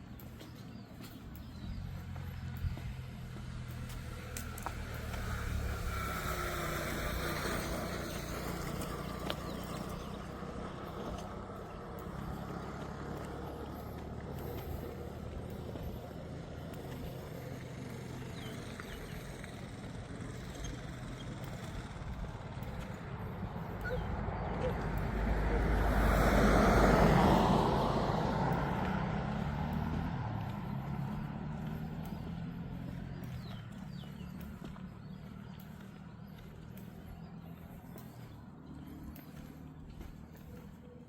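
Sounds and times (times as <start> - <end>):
low motor vehicle rumble: 0.0 - 41.0.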